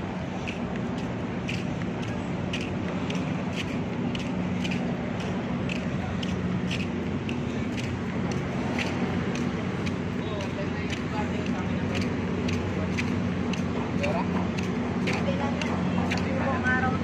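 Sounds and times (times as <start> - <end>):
footsteps on paving stones: 0.0 - 17.0.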